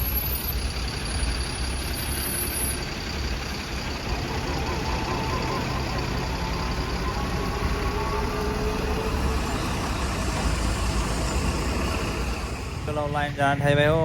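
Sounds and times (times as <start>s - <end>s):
highway traffic: 0.0s - 14.0s
truck engine low rumble: 0.0s - 14.0s.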